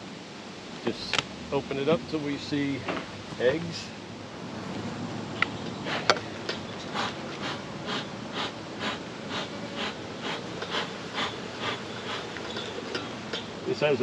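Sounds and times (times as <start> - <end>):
honeybees buzzing: 0.7 - 14.0.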